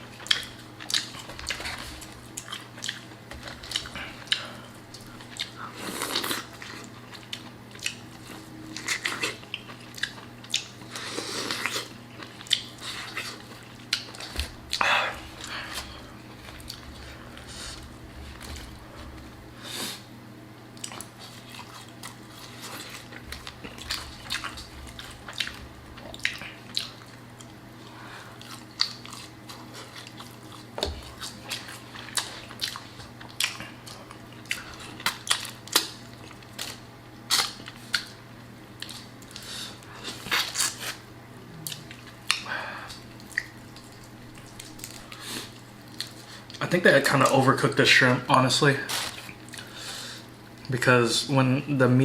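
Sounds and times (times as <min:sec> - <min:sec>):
wet chewing and smacking: 0:00.1 - 0:19.4, 0:20.7 - 0:46.6, 0:49.0 - 0:49.8.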